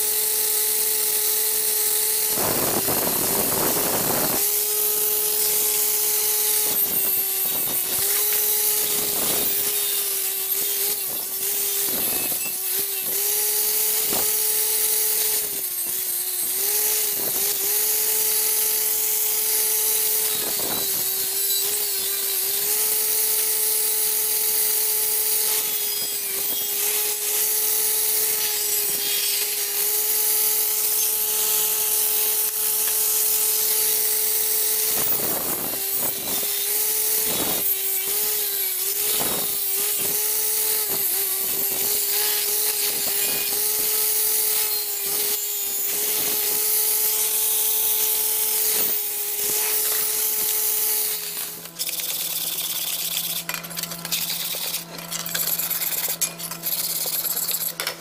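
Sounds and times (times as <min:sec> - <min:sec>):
angle grinder motor whine: 0:00.0 - 0:58.0.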